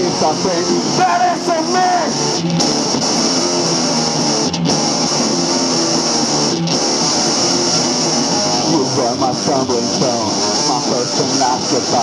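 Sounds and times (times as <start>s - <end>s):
electric guitar rock riff: 0.0s - 12.0s.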